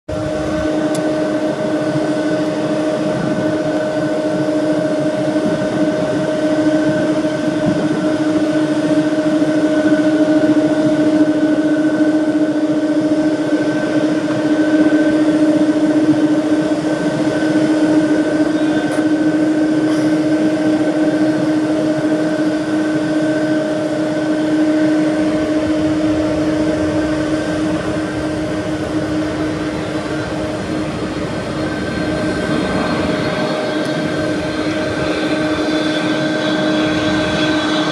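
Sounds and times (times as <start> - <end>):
jet engines whining: 0.1 - 37.9.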